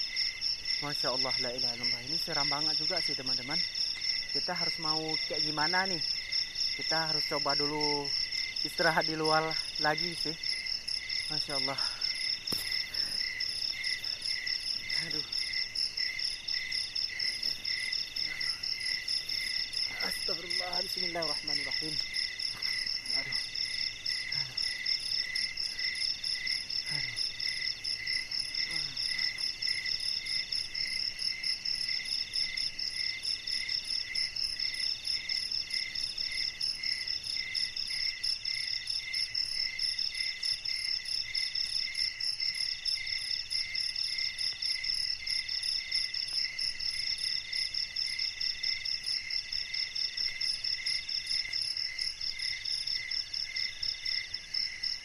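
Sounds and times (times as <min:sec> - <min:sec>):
crickets trilling: 0:00.0 - 0:55.0
high insect trill phrases: 0:00.0 - 0:55.0
insect trilling in rapid pulses: 0:00.0 - 0:55.0.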